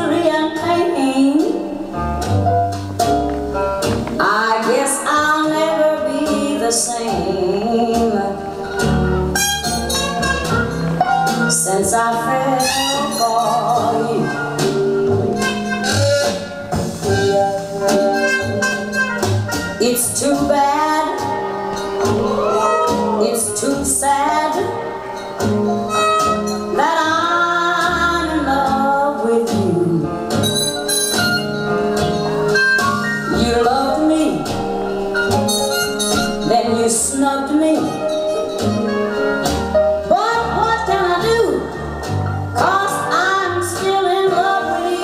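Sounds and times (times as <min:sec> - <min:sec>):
blues music: 0:00.0 - 0:45.0.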